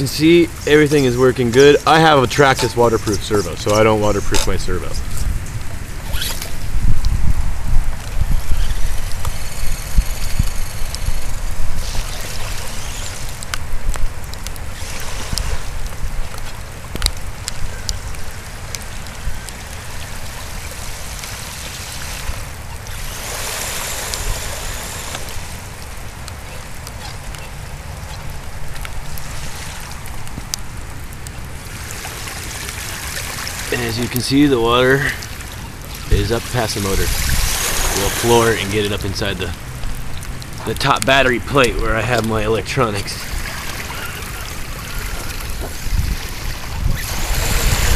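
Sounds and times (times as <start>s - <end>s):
rain: 0.0s - 47.9s
trickling water: 0.0s - 47.9s.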